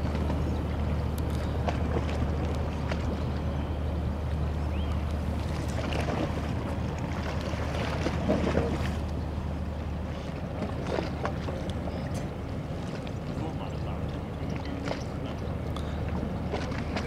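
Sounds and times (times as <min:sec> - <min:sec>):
ship engine drone: 0:00.0 - 0:17.0
water noise: 0:00.0 - 0:17.0
wind: 0:00.0 - 0:17.0.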